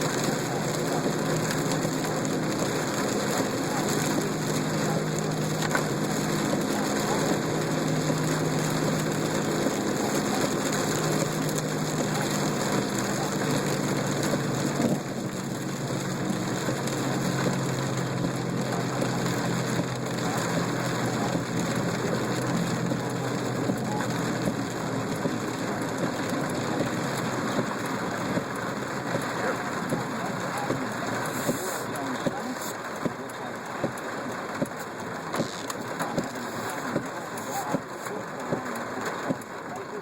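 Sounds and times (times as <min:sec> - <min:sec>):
engine and road hum: 0:00.0 - 0:40.0
heavy rain on car: 0:00.0 - 0:40.0.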